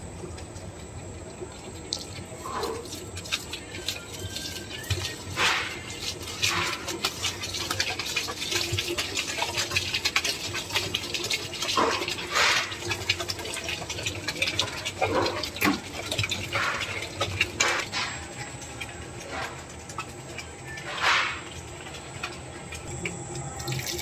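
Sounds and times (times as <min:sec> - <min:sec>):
dough mixer running: 0:00.0 - 0:24.0
water pouring into mixer bowl: 0:01.4 - 0:24.0.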